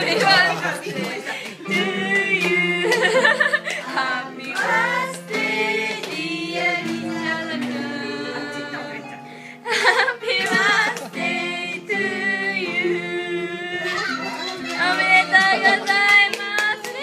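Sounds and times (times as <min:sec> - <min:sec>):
voices singing together: 0:00.0 - 0:17.0.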